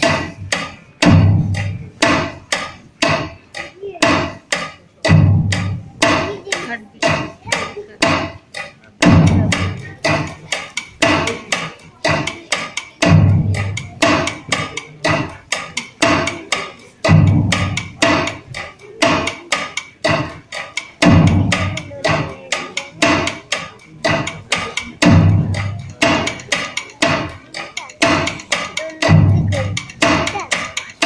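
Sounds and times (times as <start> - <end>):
heavy low drum beat: 0.0 - 4.4, 5.0 - 31.0
woody percussion strikes: 0.0 - 31.0.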